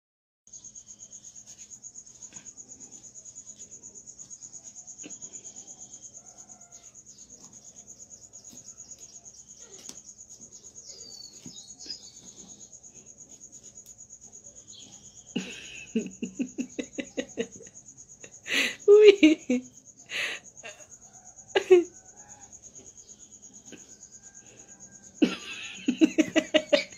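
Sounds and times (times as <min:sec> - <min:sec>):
insect chirping trill: 0:00.5 - 0:26.9.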